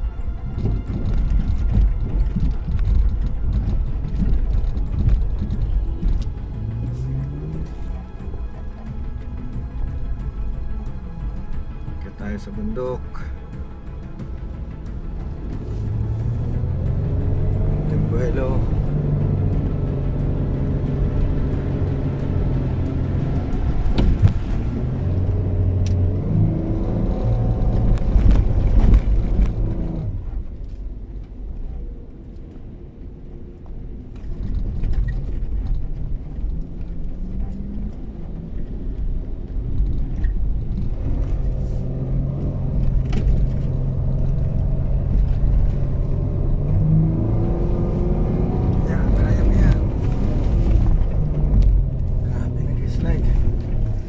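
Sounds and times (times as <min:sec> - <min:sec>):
vehicle engine under load: 0:00.0 - 0:54.0
vehicle knocks and rattles: 0:00.2 - 0:12.0, 0:13.5 - 0:31.4, 0:33.7 - 0:54.0.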